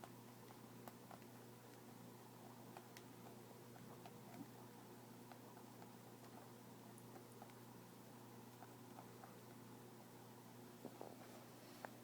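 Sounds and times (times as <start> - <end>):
guinea pig chewing clicks: 0.0 - 12.0
steady low hum: 0.0 - 12.0.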